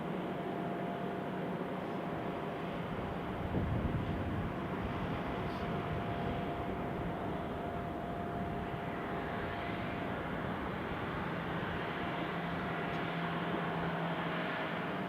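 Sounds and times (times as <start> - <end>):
airliner engine whine and hum: 0.0 - 15.0.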